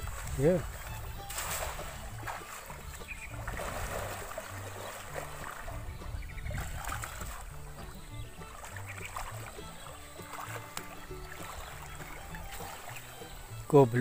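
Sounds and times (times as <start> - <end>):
net splashing into water: 0.0 - 13.3
water sloshing and trickling: 0.0 - 14.0.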